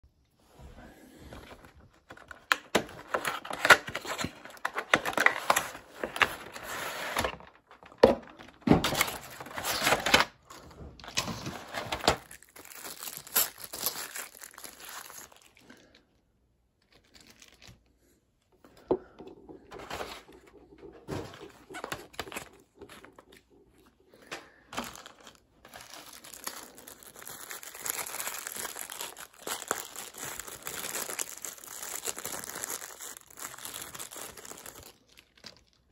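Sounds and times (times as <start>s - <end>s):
cardboard box crinkling and rustling: 1.3s - 15.5s, 19.6s - 23.8s, 24.7s - 35.8s.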